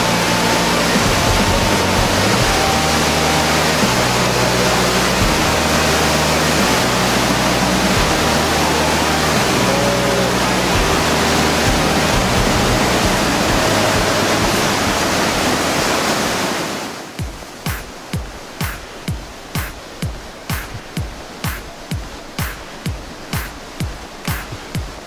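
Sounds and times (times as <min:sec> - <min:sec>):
whitewater rapids rushing: 0:00.0 - 0:25.0.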